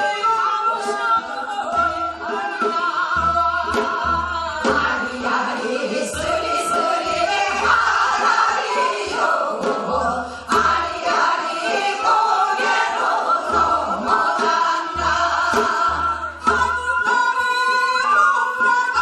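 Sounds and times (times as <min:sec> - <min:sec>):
women singing folk song: 0:00.0 - 0:19.0.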